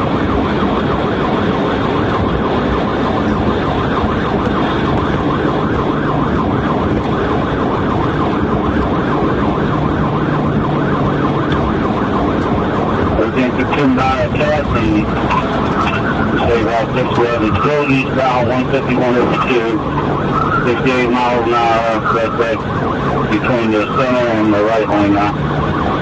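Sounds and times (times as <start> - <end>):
car engine and road noise: 0.0 - 26.0
police siren yelping: 0.0 - 26.0.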